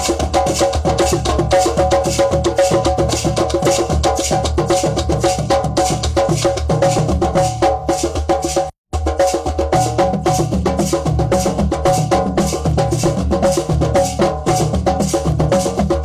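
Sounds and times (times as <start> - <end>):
hand drums playing: 0.0 - 16.0
high clicking percussion: 0.0 - 16.0.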